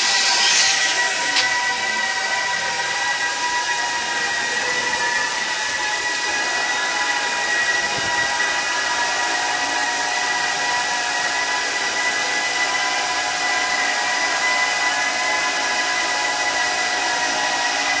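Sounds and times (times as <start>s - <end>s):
cnc router whine: 0.0s - 18.0s.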